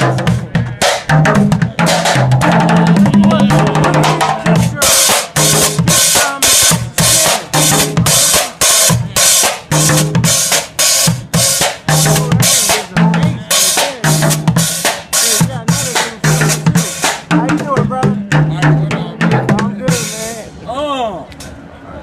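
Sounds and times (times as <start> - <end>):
bucket drumming: 0.0 - 20.5.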